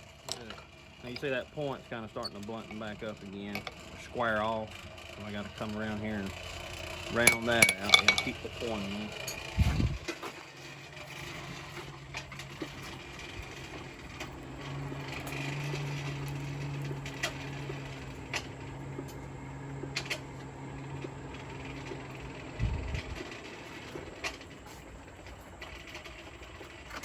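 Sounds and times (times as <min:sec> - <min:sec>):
air blower humming: 0:00.0 - 0:27.0.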